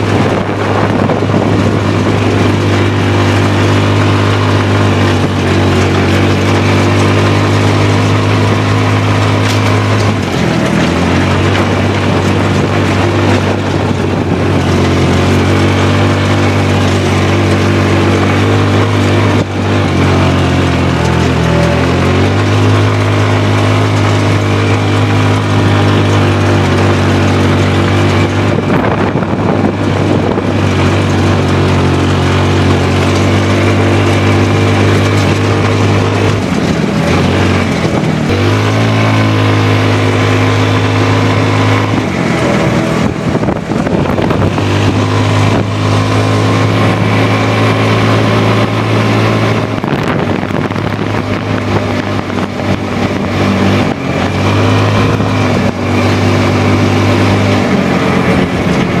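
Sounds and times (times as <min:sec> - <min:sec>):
go-kart engine humming: 0:00.0 - 0:59.0.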